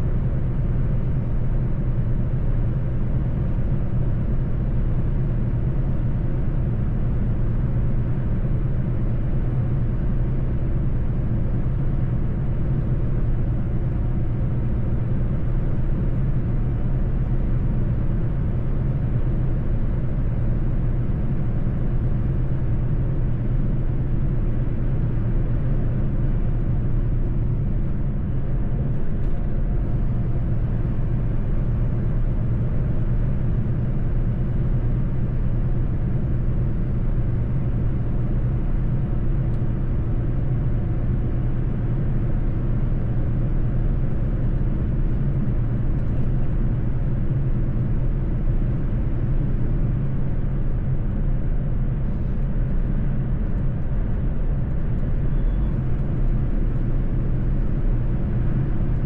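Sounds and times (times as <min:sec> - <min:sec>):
road and tyre noise: 0:00.0 - 0:59.0
truck engine drone: 0:00.0 - 0:59.0.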